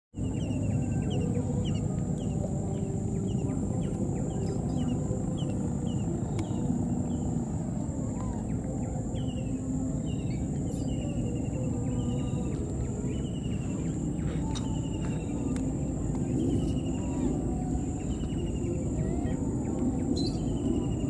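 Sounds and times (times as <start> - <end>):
high insect drone: 0.2 - 21.0
low rumble of noise: 0.2 - 21.0.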